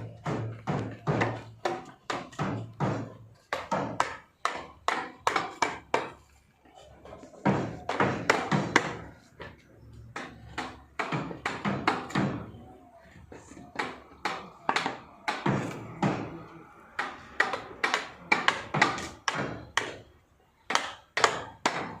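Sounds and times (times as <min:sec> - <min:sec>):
knocks and thuds on wood: 0:00.0 - 0:06.2, 0:07.2 - 0:12.6, 0:13.2 - 0:20.1, 0:20.7 - 0:22.0.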